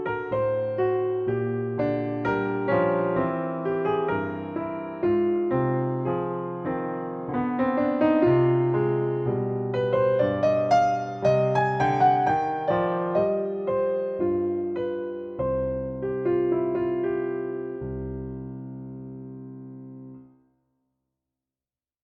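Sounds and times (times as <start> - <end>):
gentle piano music: 0.0 - 20.3.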